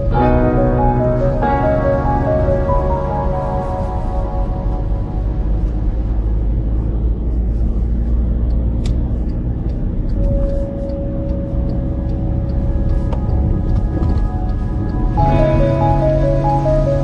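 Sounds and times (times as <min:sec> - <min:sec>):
car driving heard from inside: 0:00.0 - 0:17.0.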